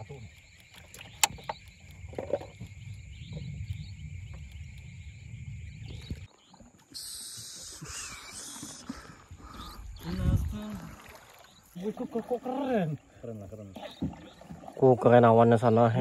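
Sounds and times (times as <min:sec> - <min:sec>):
insects buzzing and chirping: 0:00.0 - 0:16.0.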